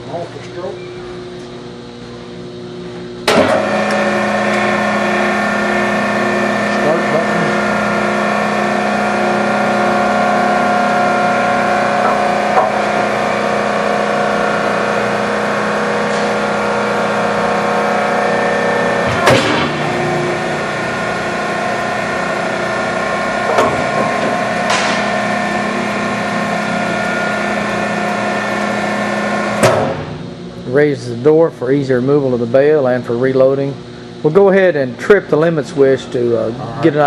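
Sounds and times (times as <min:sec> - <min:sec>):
baler motor and pump humming: 0:00.0 - 0:37.0.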